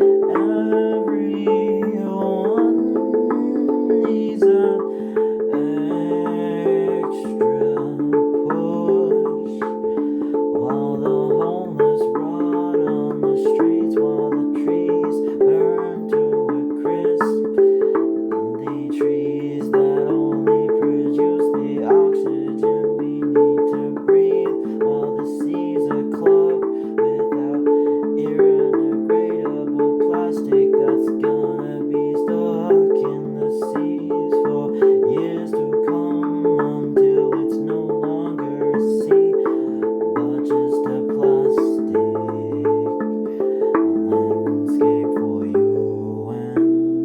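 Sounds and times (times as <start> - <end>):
handpan playing: 0.0 - 47.0.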